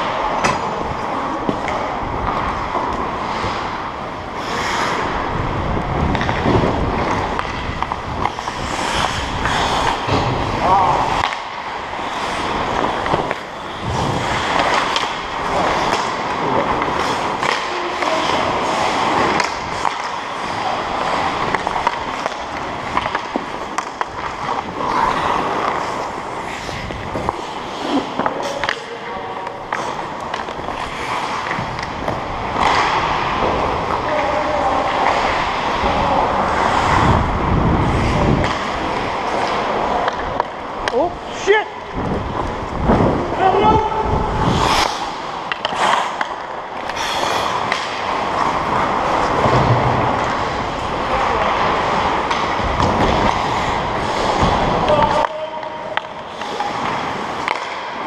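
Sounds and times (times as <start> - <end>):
hockey sticks and puck clacking: 0.0 - 5.4, 6.0 - 58.0
skates scraping on ice: 0.0 - 58.0.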